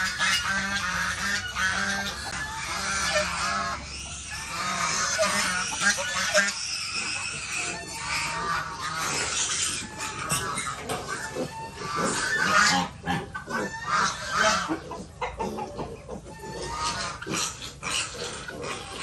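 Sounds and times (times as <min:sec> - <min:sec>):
chorus of high farmyard animal calls: 0:00.0 - 0:19.0.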